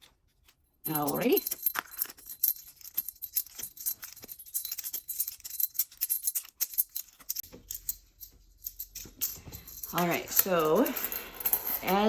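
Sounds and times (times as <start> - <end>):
metal discs clinking: 0.8 - 12.0.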